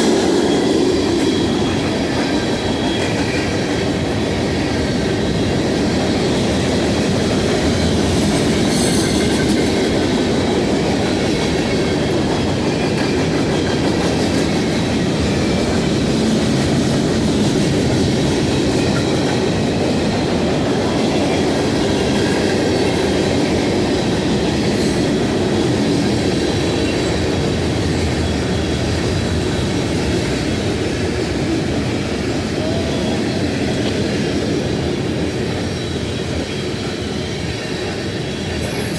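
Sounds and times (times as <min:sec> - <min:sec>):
freight train wheels rumbling on rails: 0:00.0 - 0:38.9.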